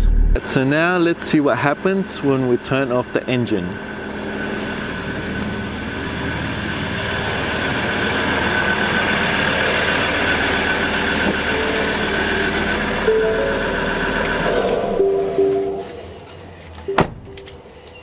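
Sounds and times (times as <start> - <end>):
engine idling with whine: 0.0 - 18.0.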